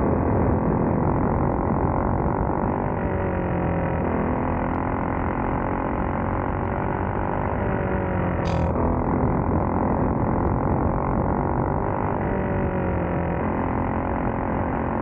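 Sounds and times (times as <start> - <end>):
racing kart engine: 0.0 - 15.0.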